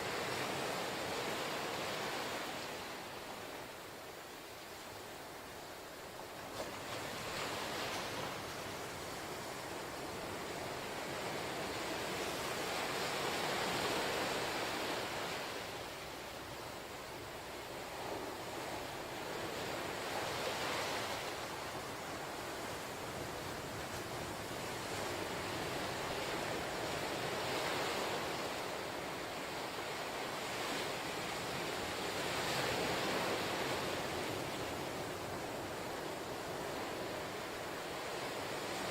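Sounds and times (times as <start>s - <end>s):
ocean surf washing ashore: 0.0s - 38.9s.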